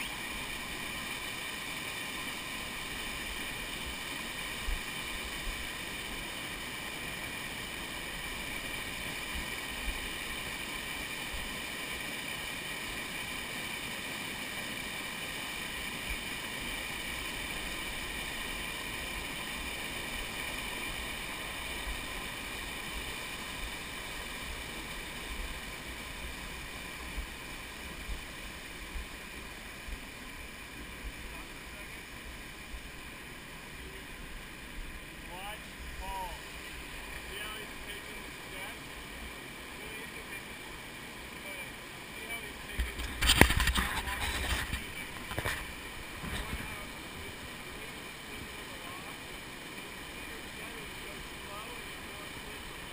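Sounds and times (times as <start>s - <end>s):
whitewater rapids rushing: 0.0s - 52.9s.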